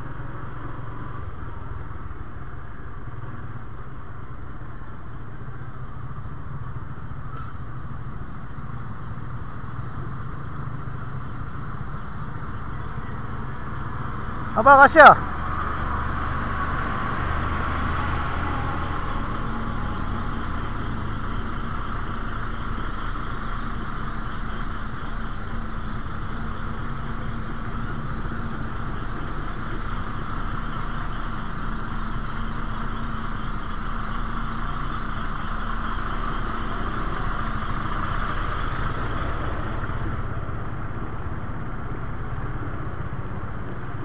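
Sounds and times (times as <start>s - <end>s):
motorcycle engine drone: 0.0s - 44.0s
road noise: 0.0s - 44.0s.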